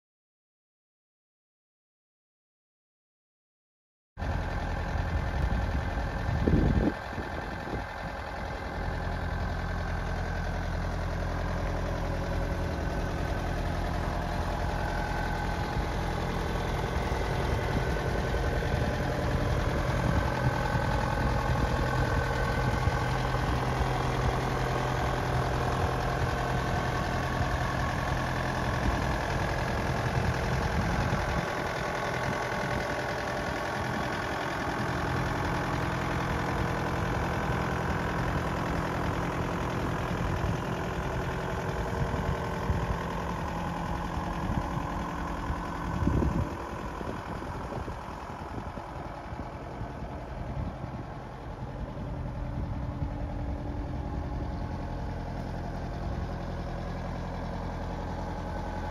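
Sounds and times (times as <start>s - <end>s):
diesel engine idling: 4.2s - 58.9s.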